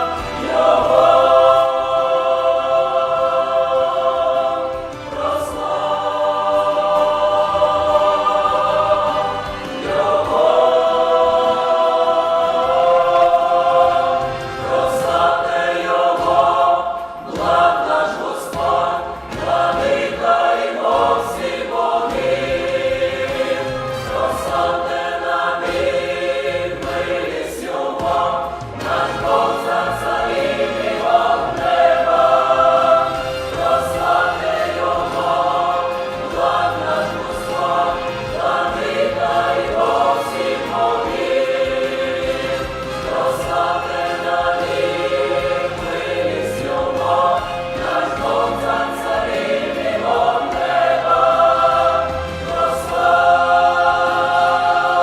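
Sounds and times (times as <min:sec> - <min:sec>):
youth choir singing a hymn: 0:00.0 - 0:55.0.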